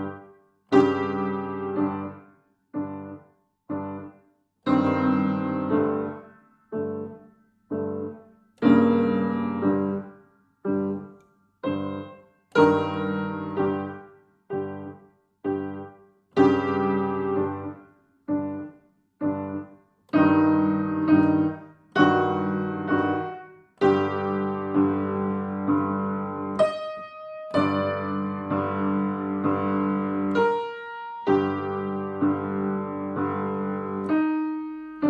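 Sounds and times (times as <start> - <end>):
piano chords: 0.0 - 35.0.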